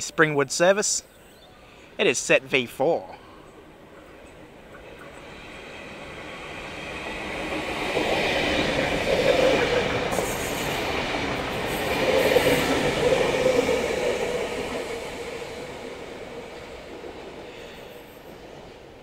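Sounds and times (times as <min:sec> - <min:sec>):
train rumble and whine: 0:02.8 - 0:19.0.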